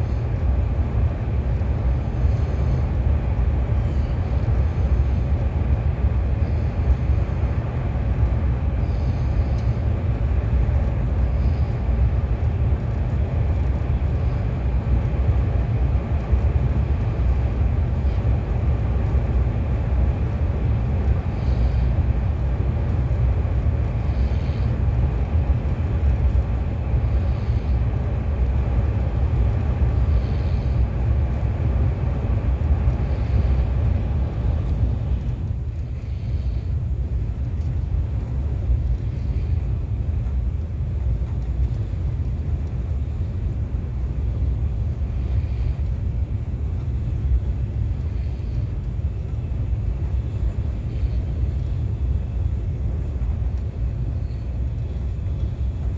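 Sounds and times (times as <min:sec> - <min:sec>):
train rumble from inside: 0:00.0 - 0:55.9.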